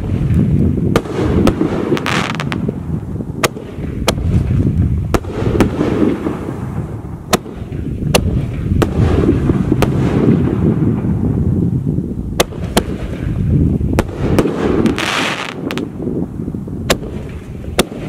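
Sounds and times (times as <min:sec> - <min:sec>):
firework shells booming: 0:00.0 - 0:11.4, 0:12.3 - 0:18.0.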